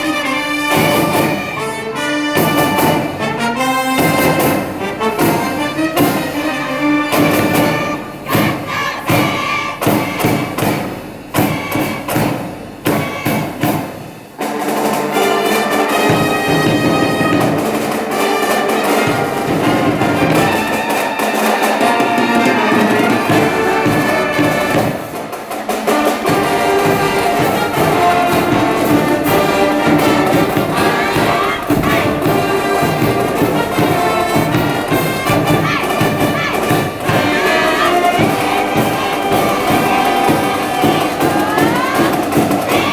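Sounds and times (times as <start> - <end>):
brass band playing: 0.0 - 42.9
drums: 0.0 - 42.9.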